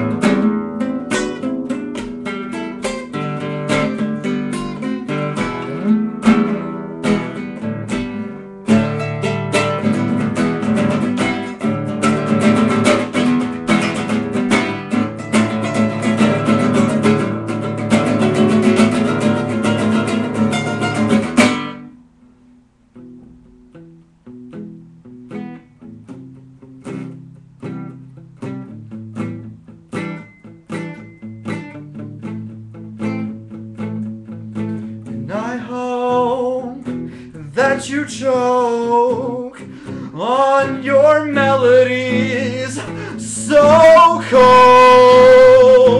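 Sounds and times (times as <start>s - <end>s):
acoustic guitar strumming chords: 0.0s - 45.9s
guitar picked notes: 0.0s - 45.9s.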